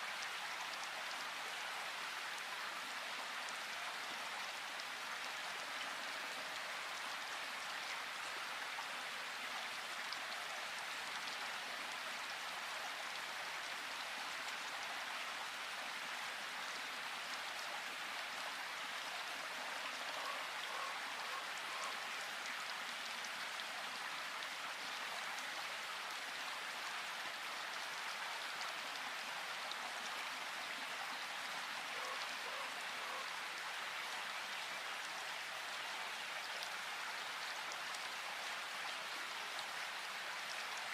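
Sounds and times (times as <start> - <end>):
steady rain in forest: 0.0 - 40.9.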